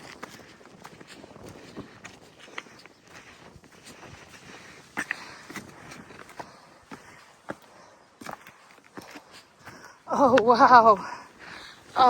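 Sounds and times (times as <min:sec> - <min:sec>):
crunching footsteps: 0:00.0 - 0:12.0.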